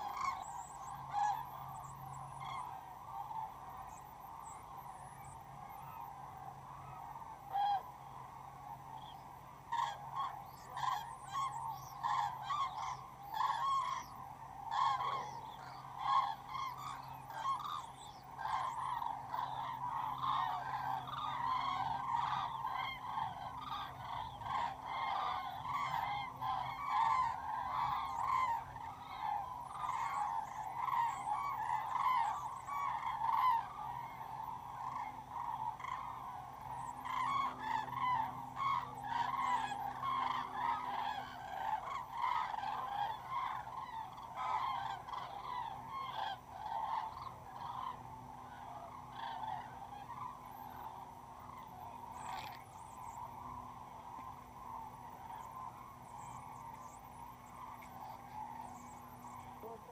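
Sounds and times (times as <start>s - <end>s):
faint low hum: 0.0s - 59.9s
flock of birds calling: 0.0s - 59.9s.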